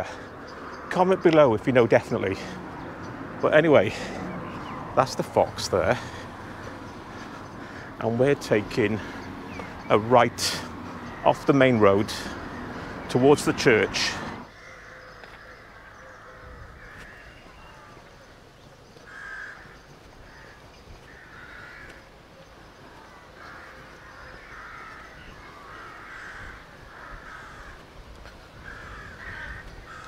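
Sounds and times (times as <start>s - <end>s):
crows cawing: 0.0s - 1.4s, 2.2s - 30.0s.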